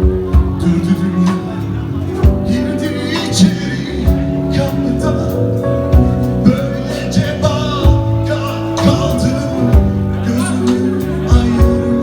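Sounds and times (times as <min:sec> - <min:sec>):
guitar accompaniment: 0:00.0 - 0:12.0
man singing: 0:00.0 - 0:12.0.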